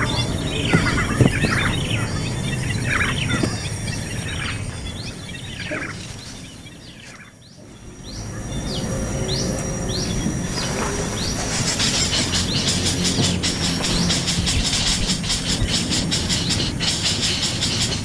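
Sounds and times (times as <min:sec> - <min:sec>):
small bird chirping: 0:00.0 - 0:18.0
steady high whine: 0:00.0 - 0:18.0.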